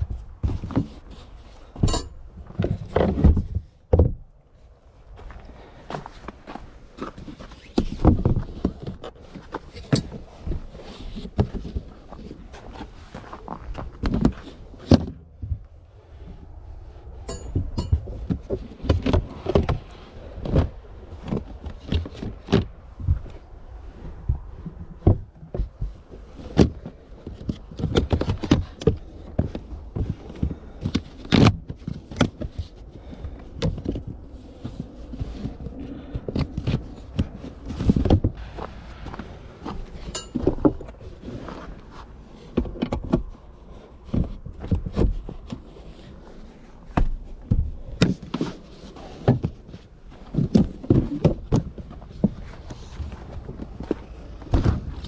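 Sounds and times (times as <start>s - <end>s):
knocks and scrapes in car boot: 0.0s - 4.3s, 5.9s - 15.6s, 24.8s - 55.0s.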